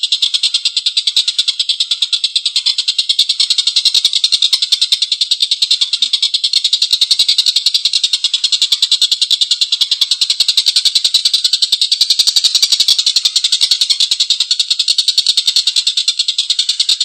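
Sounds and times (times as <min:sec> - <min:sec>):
kingfisher rattling call: 0:00.0 - 0:17.0.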